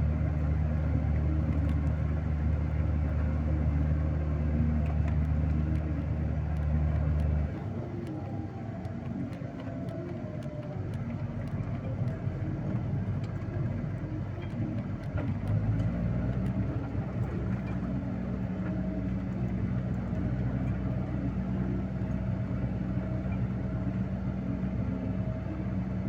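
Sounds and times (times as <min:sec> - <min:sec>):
tow truck engine running: 0:00.0 - 0:26.0.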